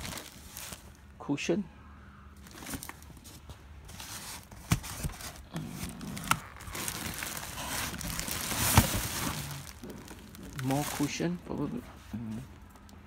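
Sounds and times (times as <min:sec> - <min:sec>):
cardboard and plastic rustling: 0:00.0 - 0:01.0, 0:02.4 - 0:12.9.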